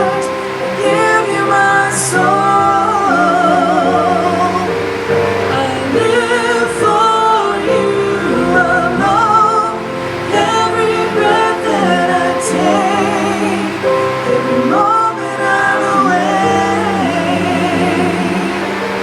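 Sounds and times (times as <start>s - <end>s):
woman singing with vibrato: 0.0s - 19.0s.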